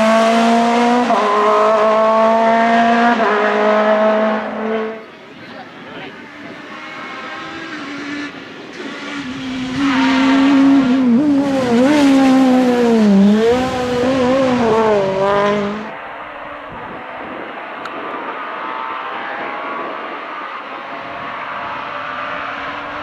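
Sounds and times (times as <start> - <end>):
rally car engine passing: 0.0 - 23.0.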